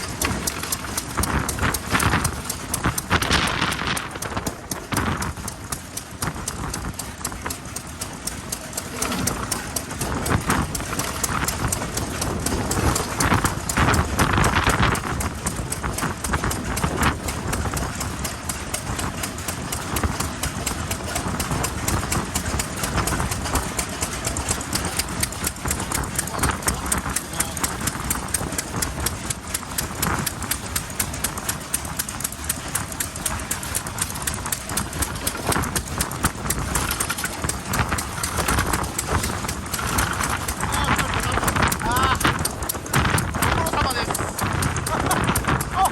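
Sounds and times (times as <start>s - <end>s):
stationary engines knocking: 0.0s - 45.9s
wind on microphone: 0.0s - 45.9s.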